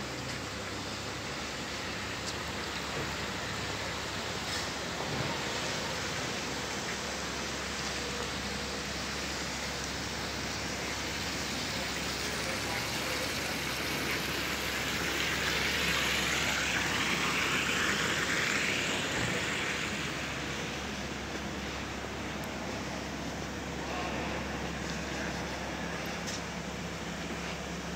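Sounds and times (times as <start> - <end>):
city street traffic hiss: 0.0 - 27.9.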